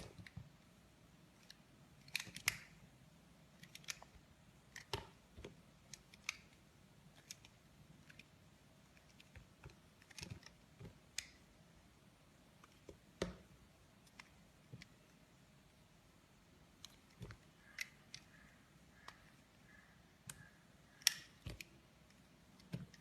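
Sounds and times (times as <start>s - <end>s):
faint room hiss: 0.0s - 23.0s.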